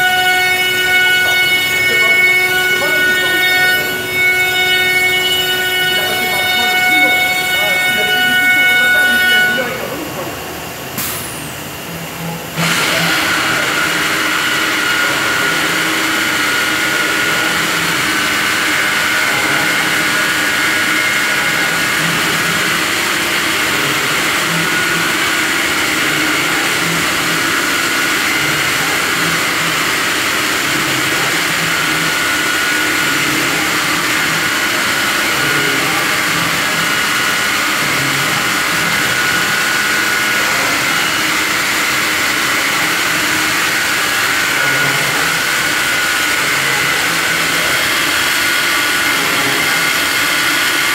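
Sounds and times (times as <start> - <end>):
router machine whining: 0.0 - 11.0, 11.8 - 50.9.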